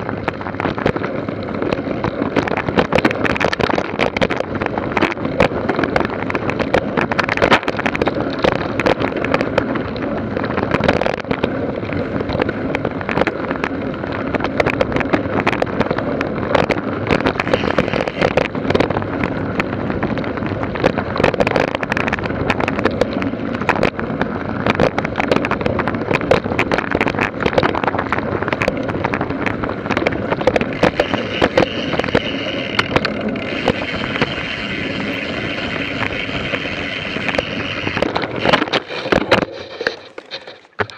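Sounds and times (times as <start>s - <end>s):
bike rattling over bumpy ground: 0.0s - 40.9s
tyre noise: 0.0s - 40.9s
wind noise: 0.0s - 40.9s.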